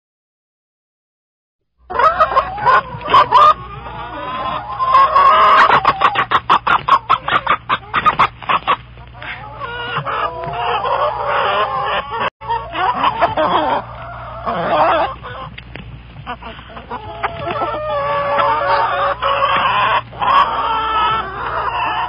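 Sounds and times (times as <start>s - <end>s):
chickens clucking: 1.8s - 22.0s.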